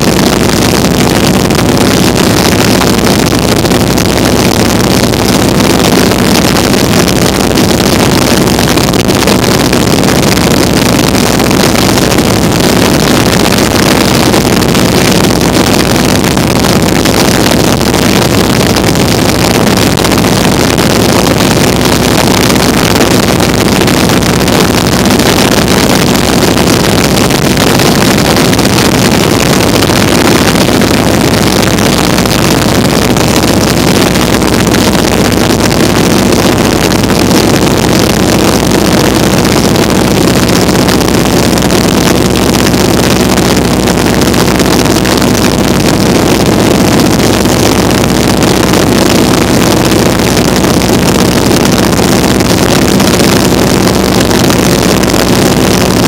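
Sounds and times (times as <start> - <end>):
biplane engine drone: 0.0 - 56.0
wind rush on microphone: 0.0 - 56.0.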